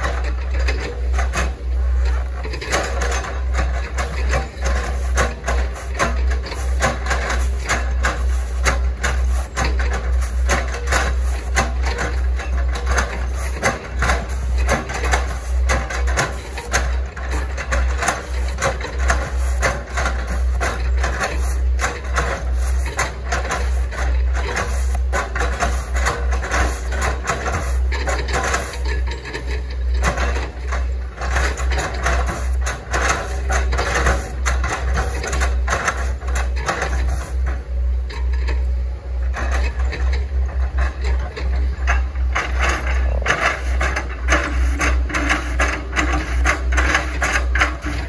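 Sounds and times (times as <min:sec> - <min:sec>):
excavator engine deep rumble: 0:00.0 - 0:48.0.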